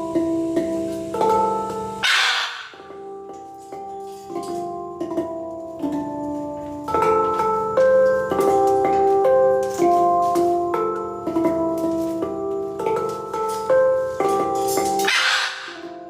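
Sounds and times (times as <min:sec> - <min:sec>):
handpan melody: 0:00.0 - 0:16.0.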